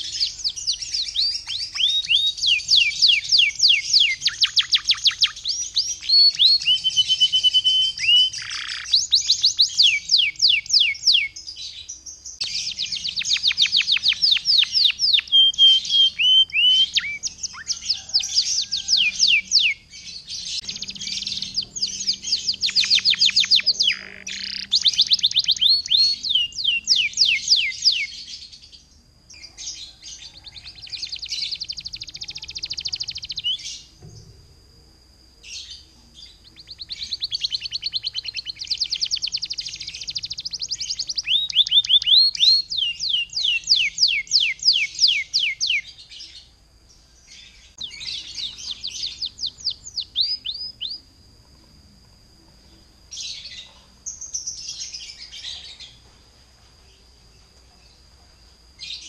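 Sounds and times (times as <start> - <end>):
canary trilling song: 0.0 - 34.1, 35.0 - 46.5, 47.2 - 51.5, 52.2 - 56.0.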